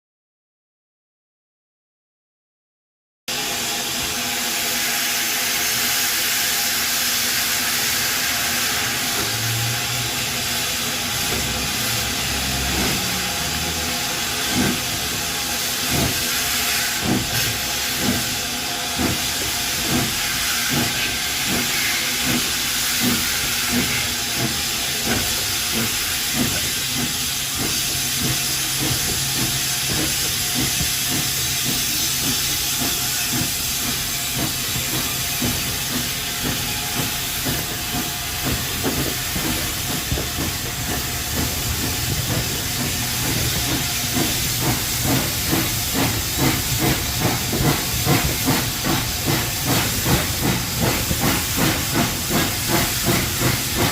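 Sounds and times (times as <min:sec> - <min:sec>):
steam locomotive hissing steam: 0:03.3 - 0:53.9.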